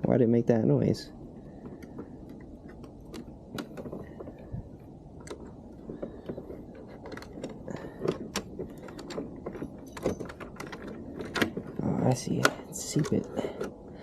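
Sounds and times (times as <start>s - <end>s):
hands handling parts clicking: 1.4s - 14.0s.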